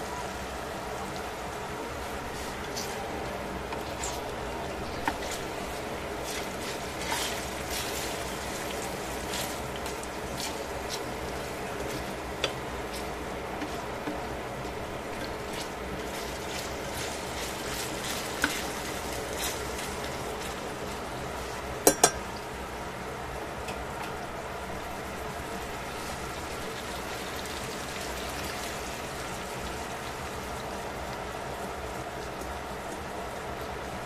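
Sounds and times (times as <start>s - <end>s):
chicken sizzling in oil: 0.0s - 23.5s, 24.4s - 34.0s.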